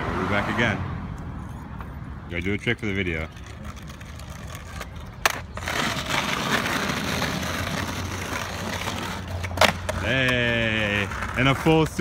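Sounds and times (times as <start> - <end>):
skateboard wheels rolling on asphalt: 1.8 - 12.0.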